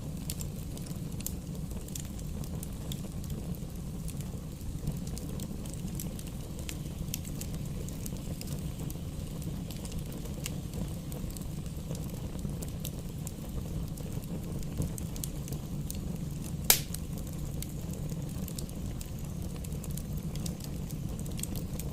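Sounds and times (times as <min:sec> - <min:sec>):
fire pops and snaps: 0:00.0 - 0:21.9
low rumble of burning fire: 0:00.0 - 0:21.9
wood fire crackling: 0:00.0 - 0:21.9.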